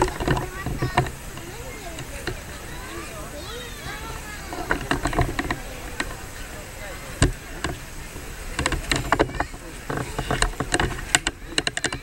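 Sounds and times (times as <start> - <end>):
crowd talking outdoors: 0.0 - 12.0.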